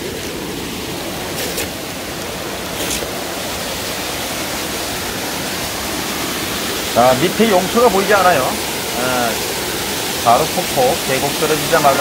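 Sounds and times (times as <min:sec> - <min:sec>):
small waterfall rushing over rocks: 0:00.0 - 0:12.0.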